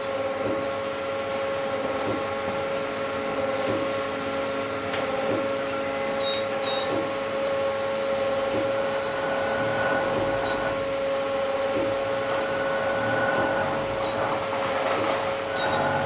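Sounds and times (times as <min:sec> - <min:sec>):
machine whine and hum: 0:00.0 - 0:16.0.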